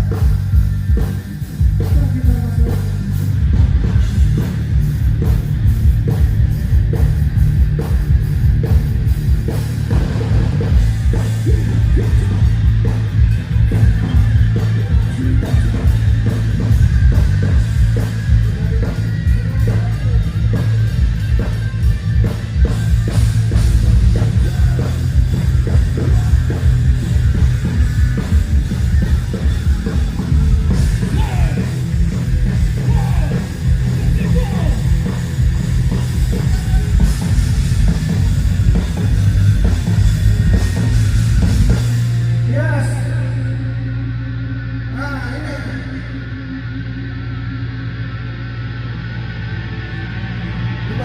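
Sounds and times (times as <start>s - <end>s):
pounding drums: 0.0s - 42.5s
heavy rock band playing: 0.0s - 51.0s.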